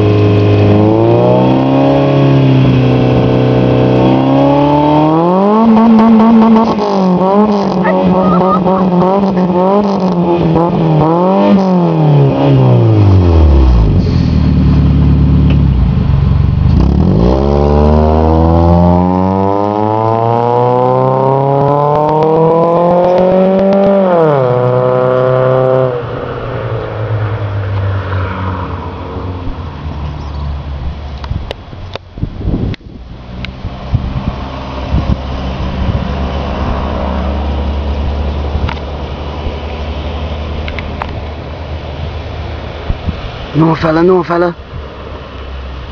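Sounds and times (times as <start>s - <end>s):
car engine revving: 0.0s - 30.9s, 33.0s - 45.9s.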